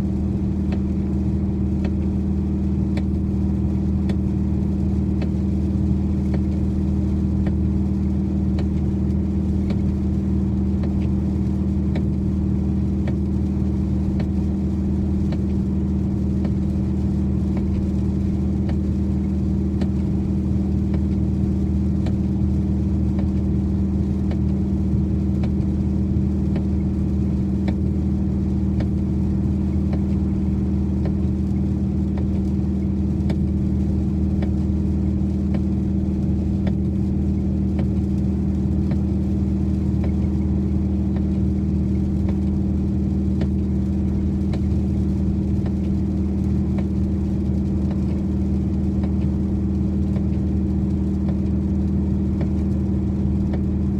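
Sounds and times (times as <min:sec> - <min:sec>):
car engine humming: 0:00.0 - 0:53.9
rain hitting car: 0:00.0 - 0:53.9.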